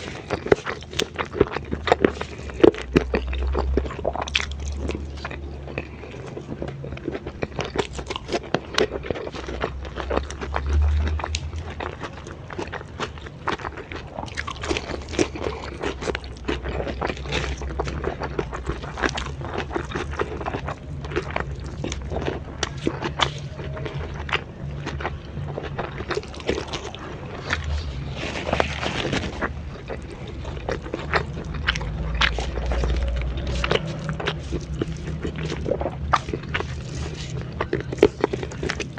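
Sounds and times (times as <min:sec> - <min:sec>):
crunching and chewing food: 0:00.0 - 0:38.9.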